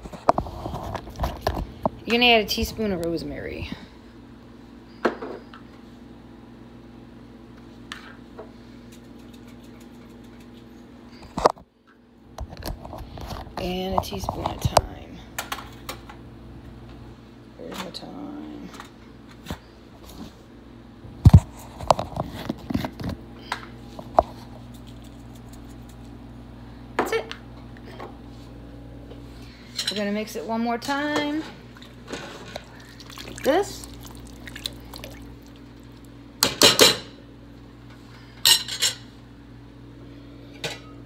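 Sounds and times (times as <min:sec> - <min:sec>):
appliance electrical hum: 0:00.0 - 0:41.0.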